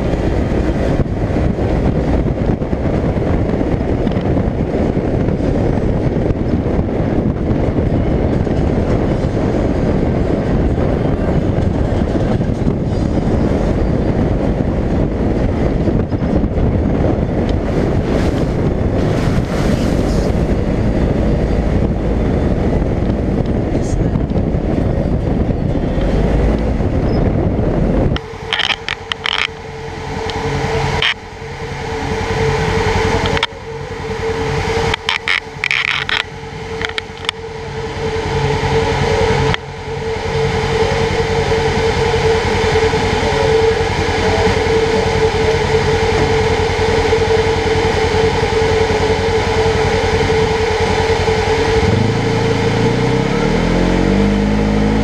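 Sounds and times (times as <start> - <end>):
utility vehicle engine: 0.0 - 55.0.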